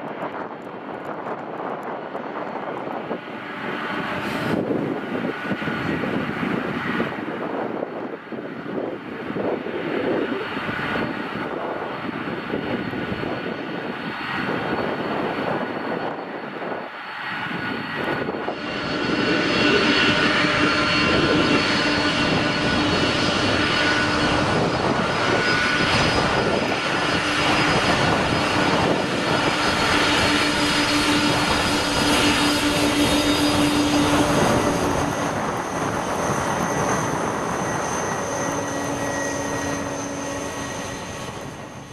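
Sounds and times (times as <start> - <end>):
jet engines rushing: 0.0 - 41.9
steady engine whine: 0.0 - 41.9.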